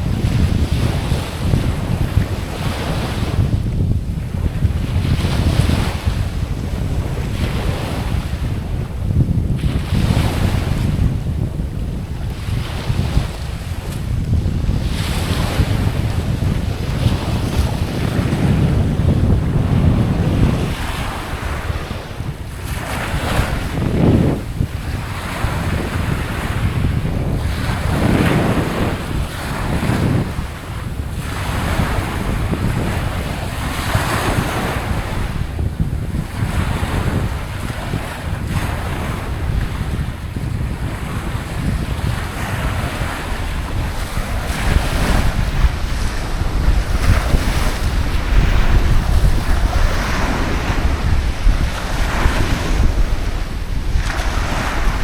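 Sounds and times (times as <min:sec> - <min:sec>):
ocean waves washing ashore: 0:00.0 - 0:55.0
wind rumble on microphone: 0:00.0 - 0:55.0.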